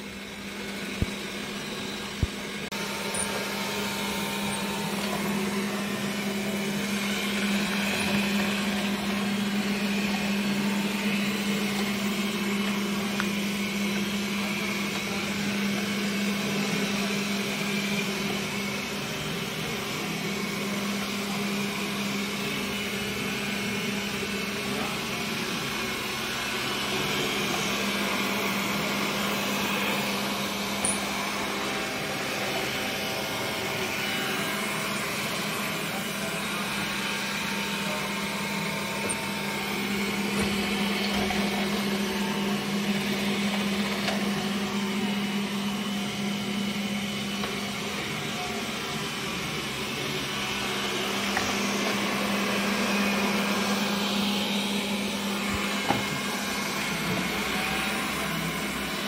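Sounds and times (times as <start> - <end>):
robot vacuum humming: 0.0 - 59.0.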